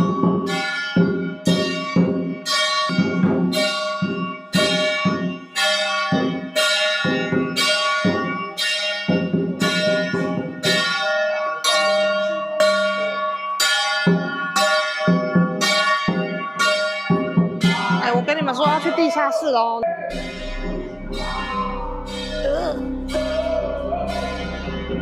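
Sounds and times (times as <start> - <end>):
ringing bell-like metal strikes: 0.0 - 25.0.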